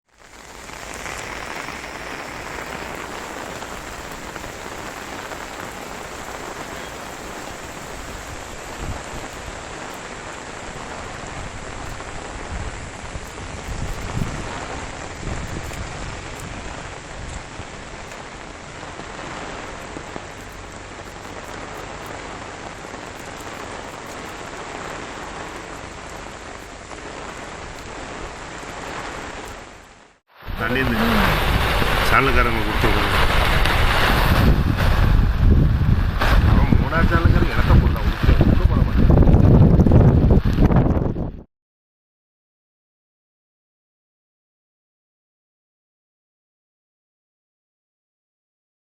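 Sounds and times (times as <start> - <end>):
steady rain falling: 0.0 - 41.4
low rumbles: 0.2 - 41.4.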